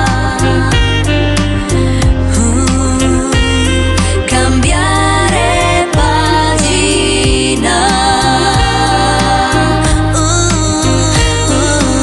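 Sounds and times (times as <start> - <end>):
song with melody over bass: 0.0 - 12.0.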